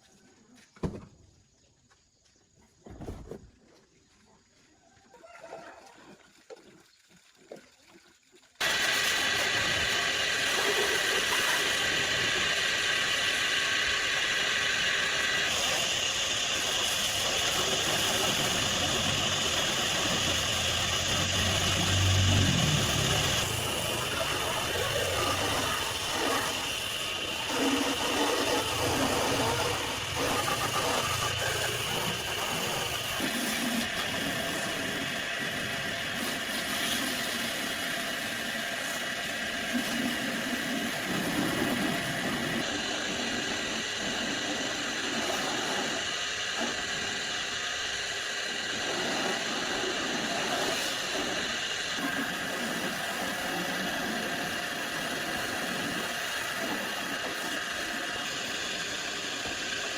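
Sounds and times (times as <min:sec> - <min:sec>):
machine running loudly: 0:08.6 - 0:59.9.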